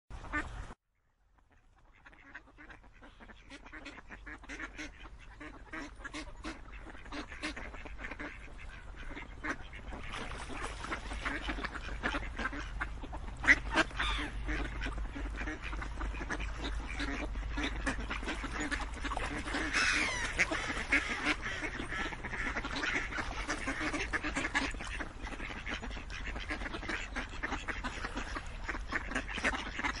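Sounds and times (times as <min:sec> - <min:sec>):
geese honking: 0:02.0 - 0:30.0.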